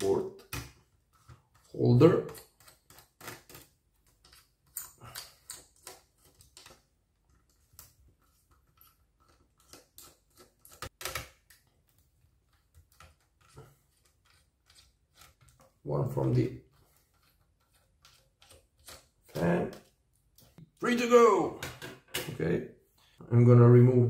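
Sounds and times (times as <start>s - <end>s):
connectors clicking and scraping: 0.4s - 20.6s.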